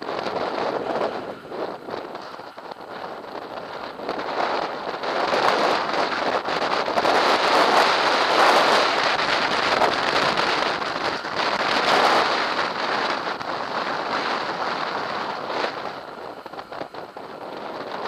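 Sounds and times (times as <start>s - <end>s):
movement over rough ground: 0.0s - 18.0s
wind on microphone: 0.0s - 18.0s.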